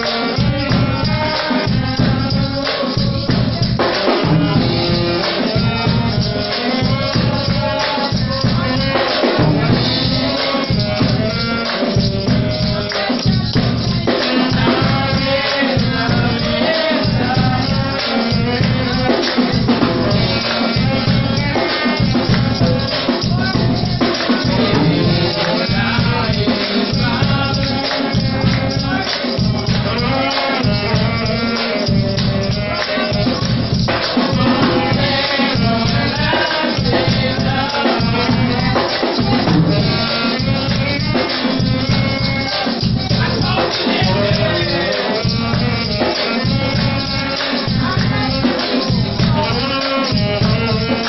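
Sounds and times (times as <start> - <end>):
congregation singing: 0.0 - 51.0
shaken rattles: 0.0 - 51.0.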